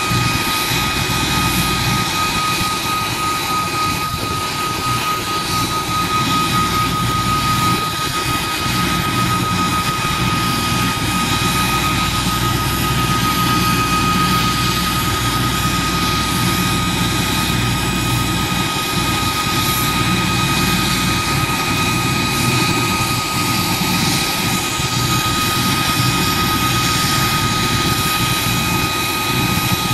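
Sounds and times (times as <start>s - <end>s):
helicopter rotor throb: 0.0s - 29.9s
helicopter turbine whine: 0.0s - 29.9s.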